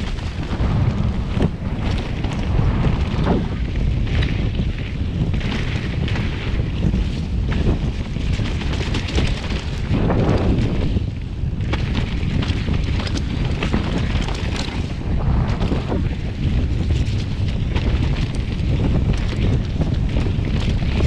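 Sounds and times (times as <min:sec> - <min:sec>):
bike clicks and rattles: 0:00.0 - 0:21.0
tyre rumble on dirt: 0:00.0 - 0:21.0
wind buffeting microphone: 0:00.0 - 0:21.0.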